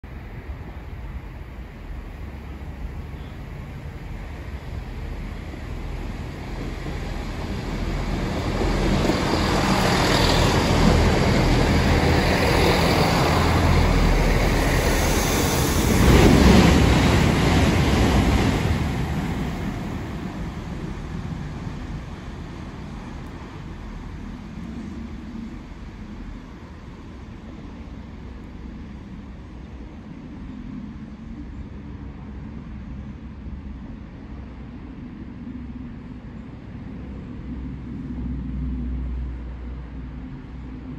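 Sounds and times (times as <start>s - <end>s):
diesel train passing: 0.0s - 40.9s.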